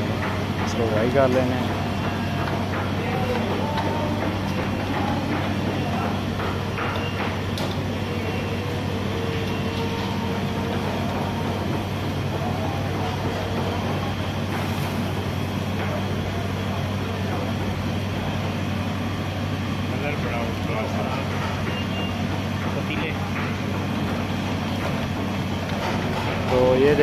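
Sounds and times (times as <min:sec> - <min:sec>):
gas burner rumble: 0:00.0 - 0:27.0.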